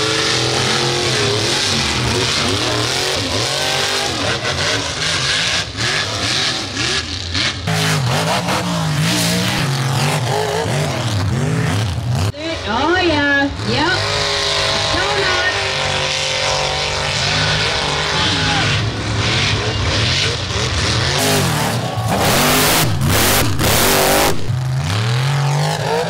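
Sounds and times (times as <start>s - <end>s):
truck engine revving hard: 0.0s - 12.3s, 13.4s - 26.0s.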